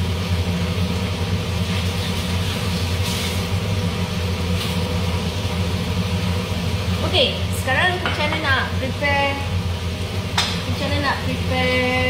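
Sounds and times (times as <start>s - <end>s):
extractor fan humming: 0.0s - 12.0s.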